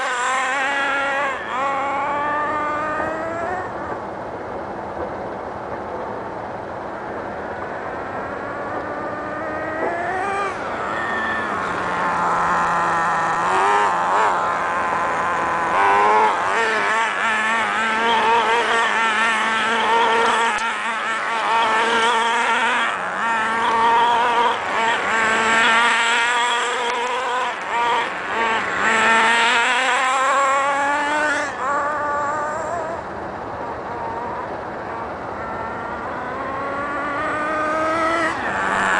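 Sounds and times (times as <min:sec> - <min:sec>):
small engine high whine: 0:00.0 - 0:38.9.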